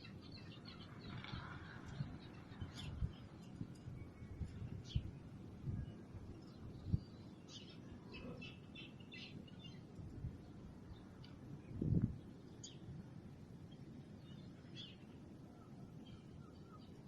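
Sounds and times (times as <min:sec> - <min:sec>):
small birds chirping: 0:00.0 - 0:12.9, 0:13.6 - 0:17.0.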